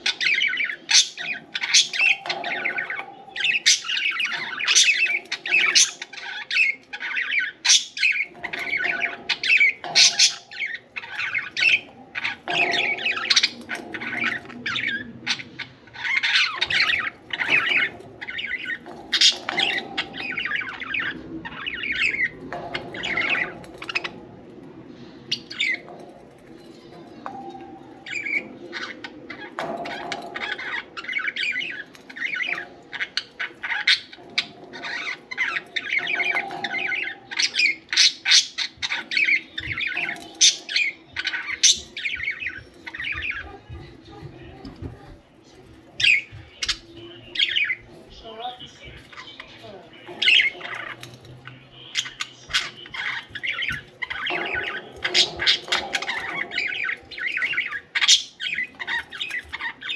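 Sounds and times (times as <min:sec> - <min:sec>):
budgerigars chirping: 0:00.0 - 0:24.4, 0:25.0 - 0:45.0, 0:45.9 - 0:59.9.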